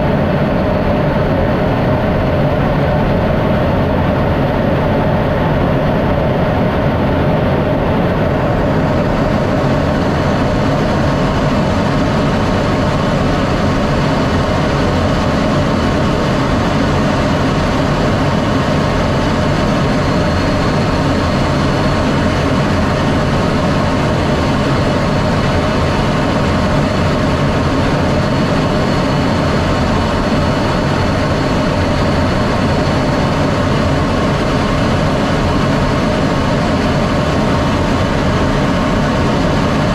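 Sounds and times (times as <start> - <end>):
jet engine roar: 0.0 - 39.9.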